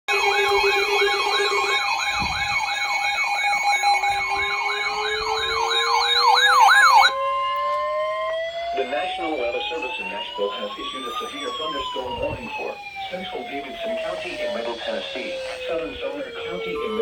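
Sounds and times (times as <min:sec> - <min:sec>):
electronic siren yelping: 0:00.1 - 0:17.0
slow rising siren tone: 0:00.1 - 0:17.0
steady siren tones: 0:00.1 - 0:17.0
wavering high siren: 0:00.1 - 0:17.0.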